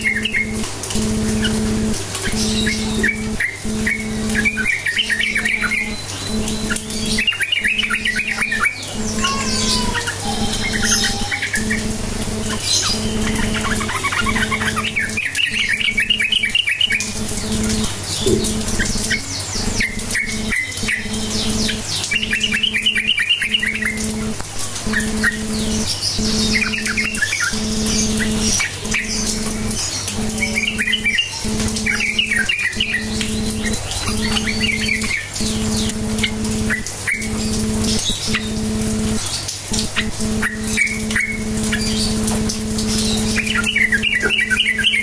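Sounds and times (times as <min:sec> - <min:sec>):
bulbul bubbly chattering song: 0:00.0 - 0:45.0
high bird trills: 0:00.0 - 0:45.0
steady low hum: 0:00.0 - 0:45.0.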